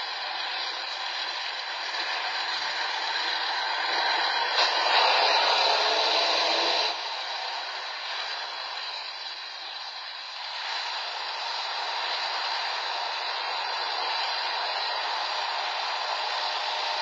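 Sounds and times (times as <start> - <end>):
tank diesel engine under load: 0.0 - 17.0.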